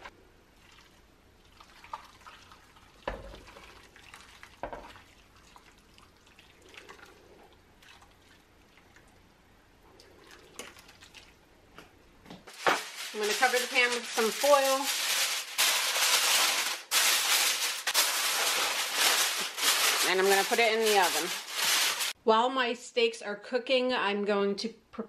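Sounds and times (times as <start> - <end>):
gravy trickling and splashing: 0.6 - 11.5, 12.5 - 22.2.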